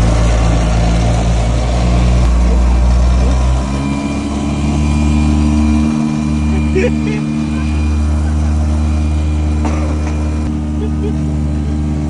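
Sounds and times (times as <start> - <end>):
outboard motors running: 0.0 - 12.0.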